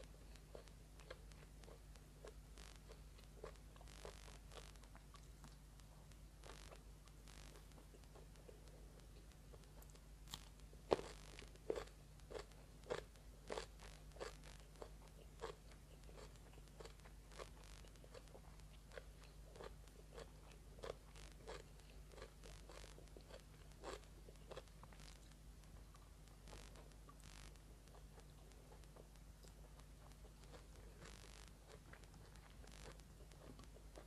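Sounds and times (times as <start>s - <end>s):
crunching and chewing eggplant: 0.0s - 34.0s.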